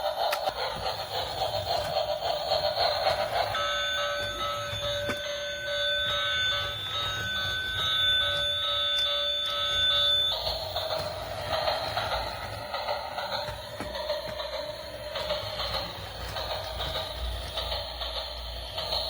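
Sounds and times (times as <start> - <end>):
noisy whirring: 0.0 - 19.0.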